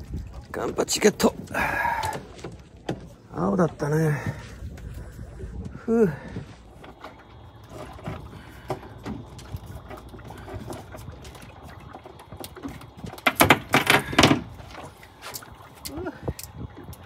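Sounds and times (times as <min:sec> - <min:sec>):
knocks and clatter on boat: 0:00.0 - 0:15.5.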